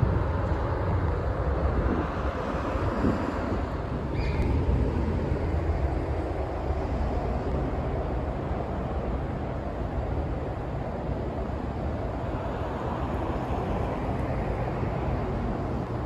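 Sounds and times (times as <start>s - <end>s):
low street rumble: 0.0s - 16.0s.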